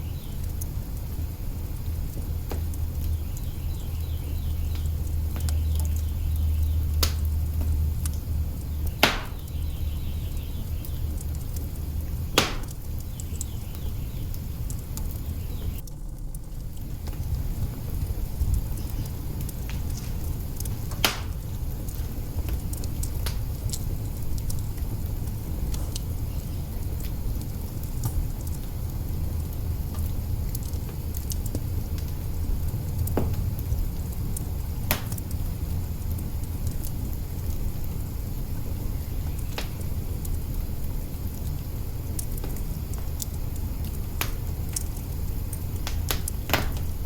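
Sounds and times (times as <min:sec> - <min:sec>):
fire popping: 0:00.0 - 0:47.0
wood fire crackling: 0:00.0 - 0:47.0.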